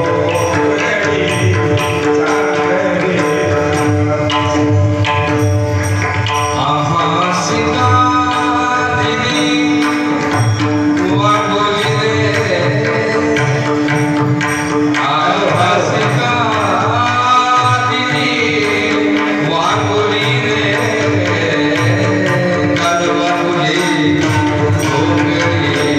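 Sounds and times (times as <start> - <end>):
hand drum rhythm: 0.0 - 25.9
man singing devotional song: 0.0 - 25.9.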